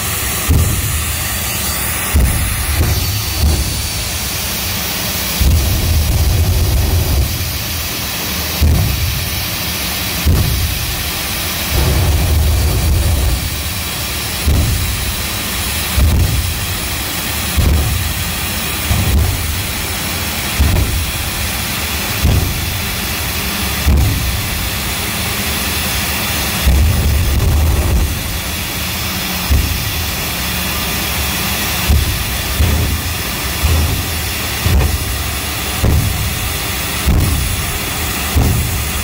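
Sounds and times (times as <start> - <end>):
jet engine hissing: 0.0 - 39.0
deep afterburner thumps: 0.2 - 24.8, 26.5 - 39.0.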